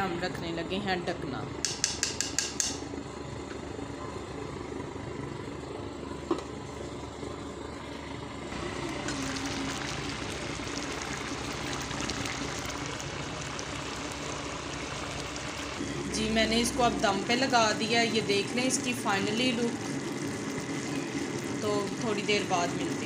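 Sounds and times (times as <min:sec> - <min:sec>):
gas stove burner hissing: 0:01.6 - 0:23.0.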